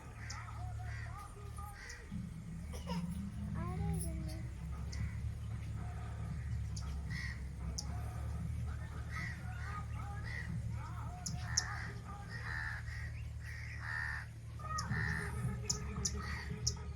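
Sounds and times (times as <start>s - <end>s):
bird calling: 0.0s - 16.9s
steady low rumble: 0.0s - 16.9s.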